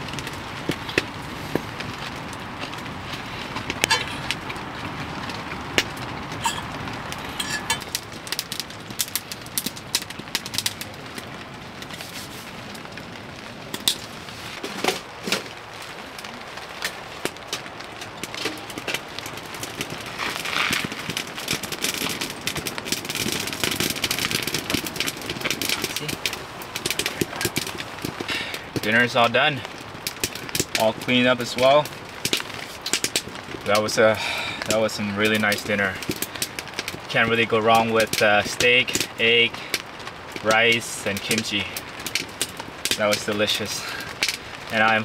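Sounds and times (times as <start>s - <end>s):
steady fire hiss: 0.0s - 45.0s
wood fire crackling and popping: 0.0s - 45.0s.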